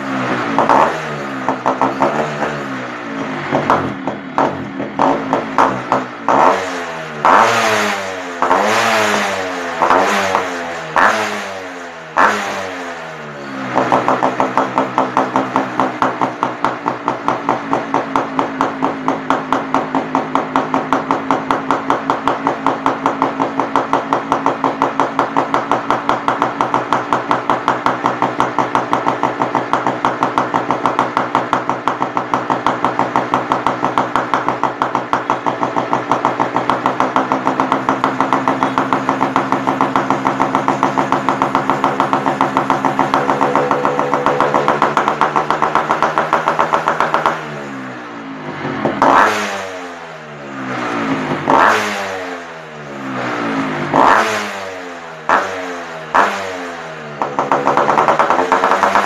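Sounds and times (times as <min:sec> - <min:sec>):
motorcycle revving and idling: 0:00.0 - 0:59.0.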